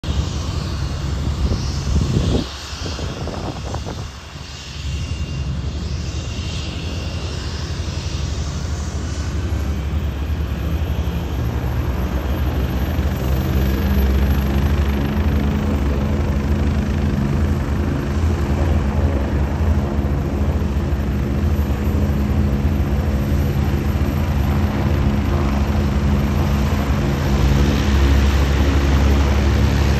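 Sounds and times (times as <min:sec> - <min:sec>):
light aircraft engine drone: 0:00.0 - 0:29.9.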